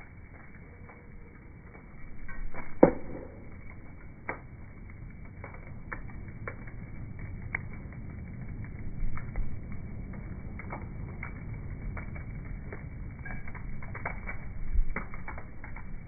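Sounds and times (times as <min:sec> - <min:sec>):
bonfire crackling and popping: 0:00.0 - 0:16.0
low steady rumble: 0:00.0 - 0:16.0.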